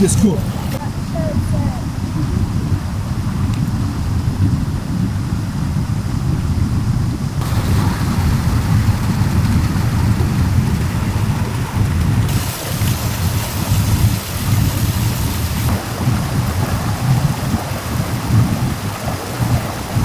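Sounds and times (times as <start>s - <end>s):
stream rushing over boulders: 0.0s - 5.0s, 7.4s - 20.0s.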